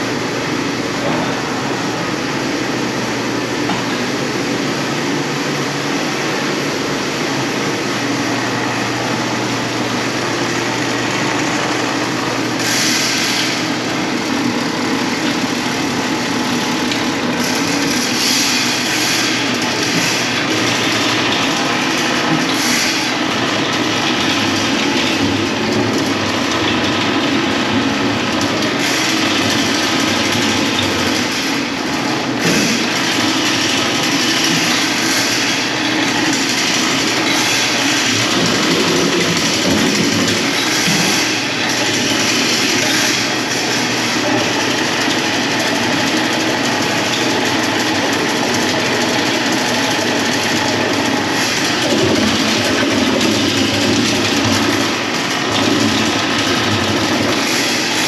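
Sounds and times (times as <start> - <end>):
loud machinery noise: 0.0 - 58.0.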